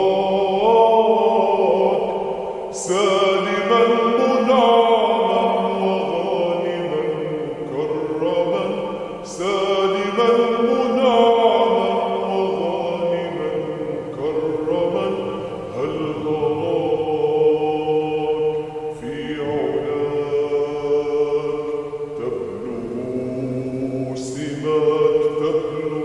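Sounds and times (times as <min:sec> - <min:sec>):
layered wordless voices singing: 0:00.0 - 0:26.0.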